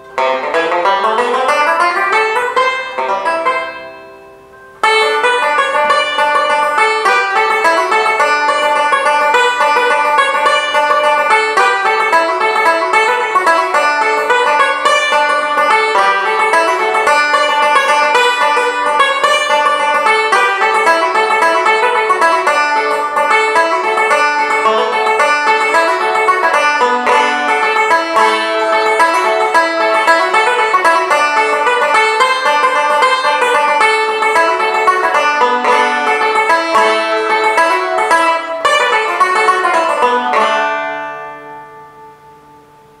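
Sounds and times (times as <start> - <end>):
tenor banjo playing: 0.0 - 43.0.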